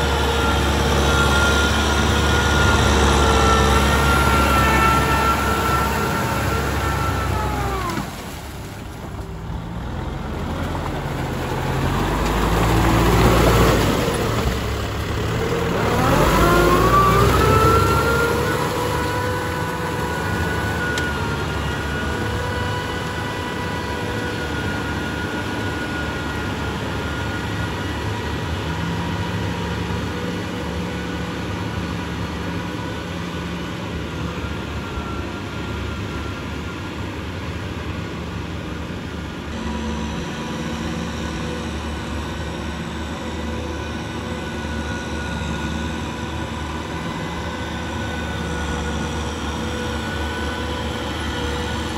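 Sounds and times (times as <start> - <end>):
tractor engine working: 0.0 - 51.9.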